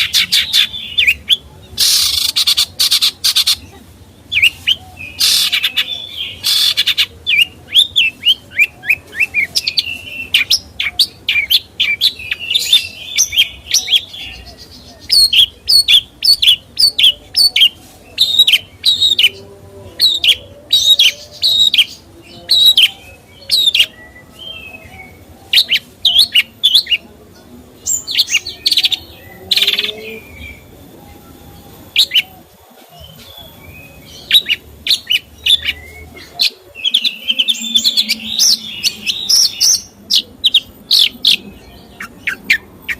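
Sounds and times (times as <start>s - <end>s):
songbird chirping and whistling: 4.2s - 19.4s, 20.0s - 27.1s, 27.8s - 42.9s.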